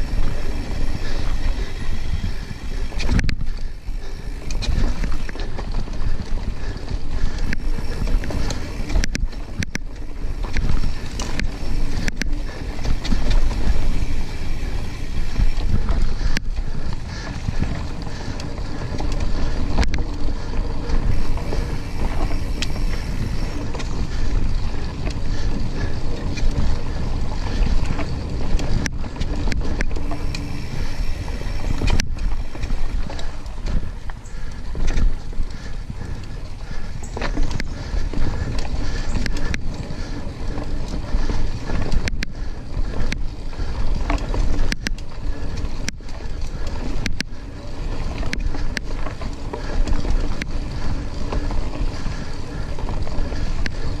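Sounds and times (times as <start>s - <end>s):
bike clicks and knocks: 0.0s - 54.0s
tyres rumbling on dirt: 0.0s - 54.0s
wind buffeting microphone: 0.0s - 54.0s.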